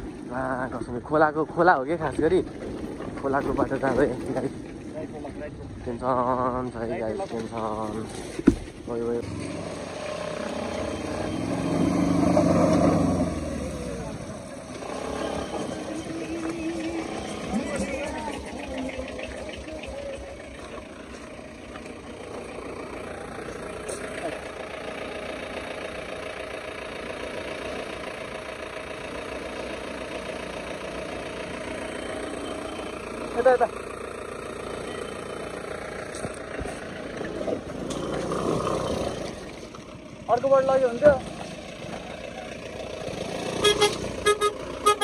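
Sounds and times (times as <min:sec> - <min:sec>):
vehicle engine revving: 0:00.0 - 0:45.0.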